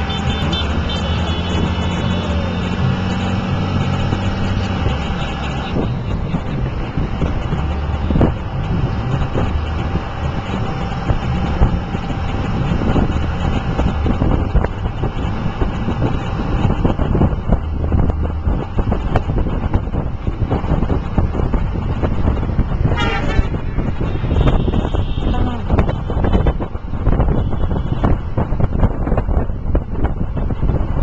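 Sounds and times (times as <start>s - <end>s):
scooter engines and traffic: 0.0s - 31.0s.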